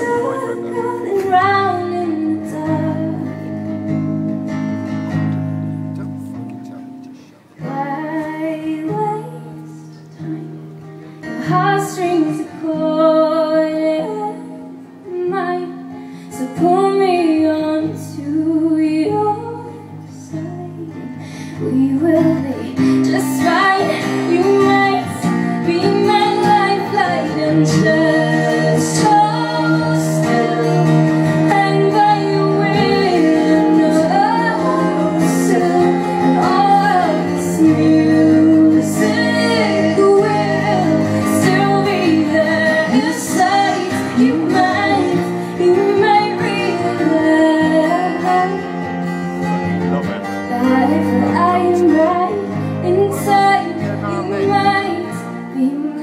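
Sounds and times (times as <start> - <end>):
woman singing: 0.0 - 4.5, 7.6 - 49.6, 50.4 - 56.0
acoustic guitar: 0.0 - 56.0.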